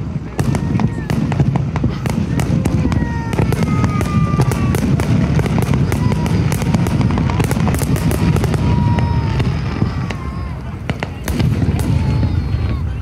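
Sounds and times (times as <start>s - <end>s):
firework booms: 0.0s - 13.0s
firework crackles: 0.0s - 13.0s
firework whistling: 0.0s - 13.0s.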